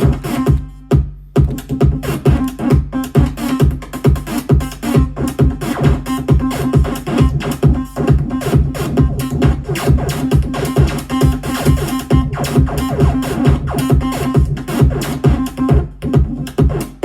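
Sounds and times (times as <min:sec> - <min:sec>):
low thumping beat: 0:00.0 - 0:17.0
repeating synth pattern: 0:00.0 - 0:17.0.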